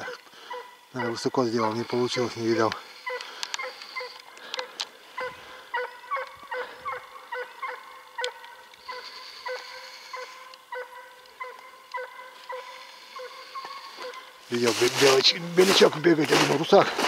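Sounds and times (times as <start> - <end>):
distant hound baying: 0.0 - 16.6.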